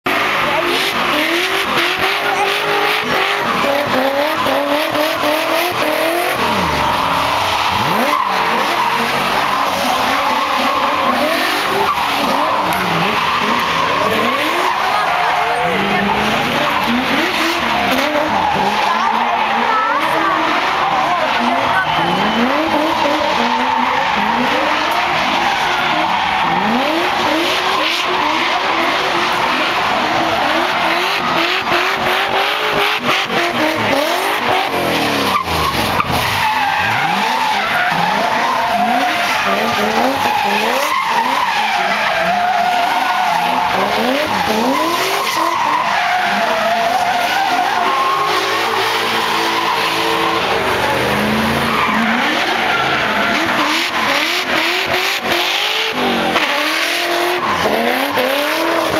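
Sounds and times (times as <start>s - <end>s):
car engines revving: 0.0s - 58.9s.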